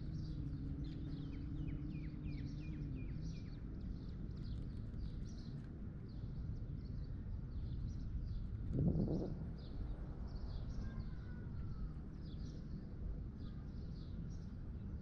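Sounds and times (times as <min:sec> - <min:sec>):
small birds chirping: 0:00.0 - 0:14.8
low rumble of outdoor background: 0:00.0 - 0:15.0.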